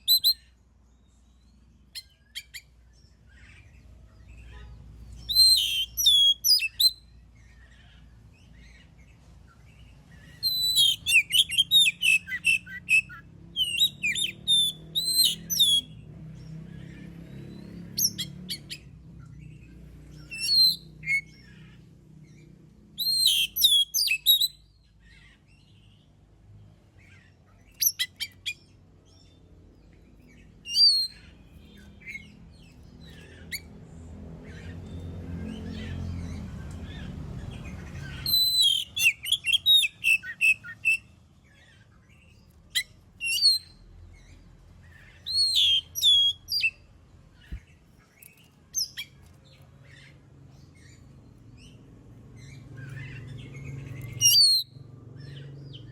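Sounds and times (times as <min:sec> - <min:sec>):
magpie-robin whistled song: 0:00.0 - 0:26.1, 0:27.0 - 0:29.4, 0:30.0 - 0:33.8, 0:36.8 - 0:51.8, 0:52.4 - 0:55.9.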